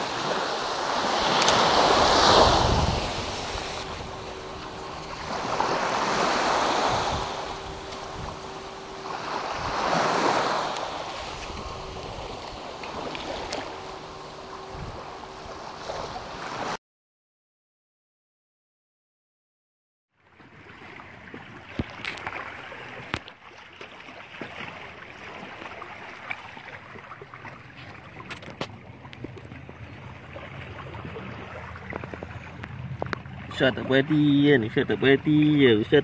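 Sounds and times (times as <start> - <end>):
waves breaking on a sandy beach: 0.0 - 16.8, 20.4 - 36.0.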